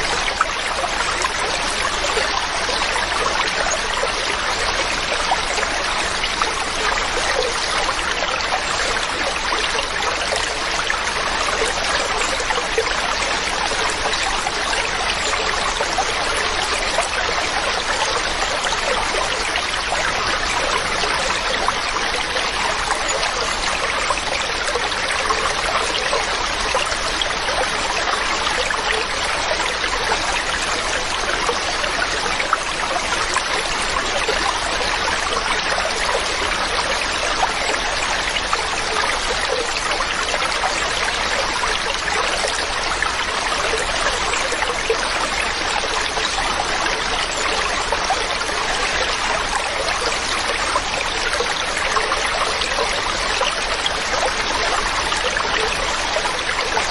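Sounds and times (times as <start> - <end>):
mountain stream over rocks: 0.0 - 56.9.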